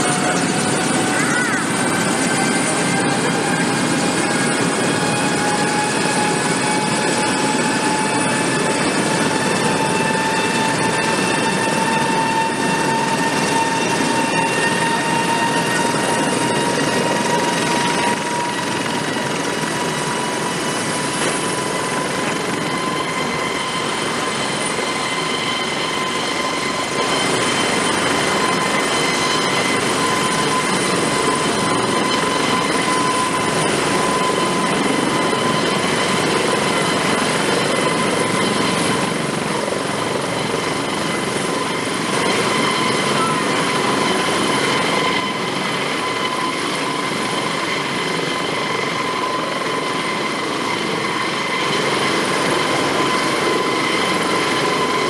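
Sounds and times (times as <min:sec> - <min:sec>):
helicopter rotor and turbine whine: 0:00.0 - 0:55.0.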